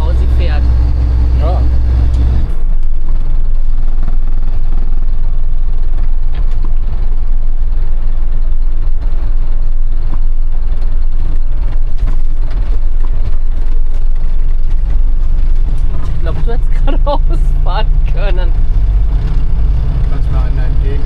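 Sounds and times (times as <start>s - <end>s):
motorhome engine and road rumble: 0.0s - 21.0s.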